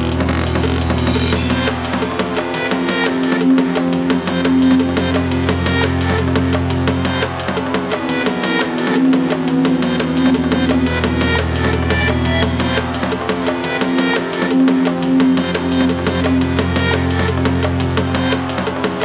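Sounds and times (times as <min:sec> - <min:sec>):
deep bass line: 0:00.0 - 0:07.6, 0:09.0 - 0:13.4, 0:15.0 - 0:18.6
fast drums: 0:00.0 - 0:19.0.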